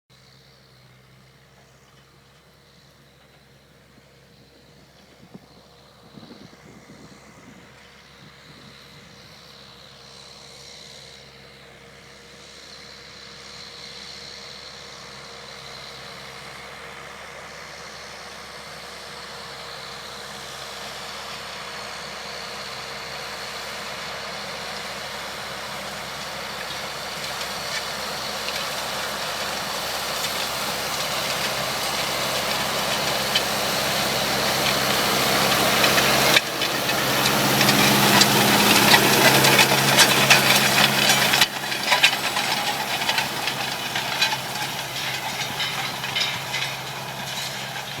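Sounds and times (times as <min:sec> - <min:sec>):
tractor engine running: 0:00.2 - 0:48.0.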